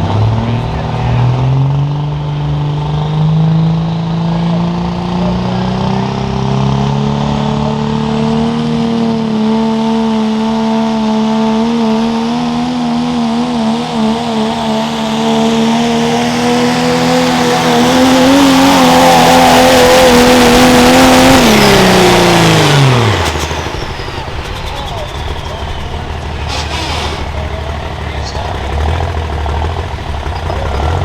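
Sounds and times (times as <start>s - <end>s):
diesel engine at full throttle: 0.0s - 31.0s.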